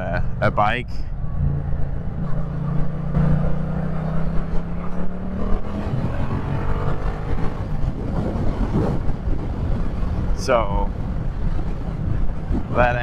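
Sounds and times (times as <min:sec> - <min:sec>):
motorcycle engine: 0:01.2 - 0:12.7.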